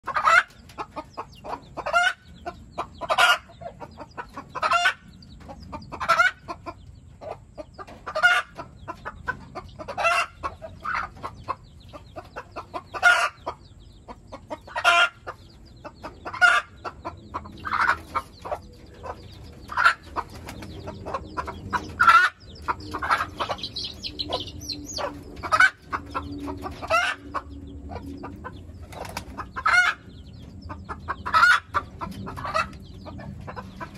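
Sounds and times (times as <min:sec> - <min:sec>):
chickens calling: 0:00.0 - 0:33.9.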